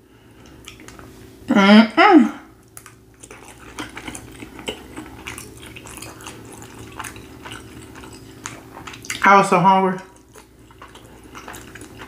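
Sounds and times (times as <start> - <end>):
wet chewing: 0.4 - 1.1, 2.6 - 12.0.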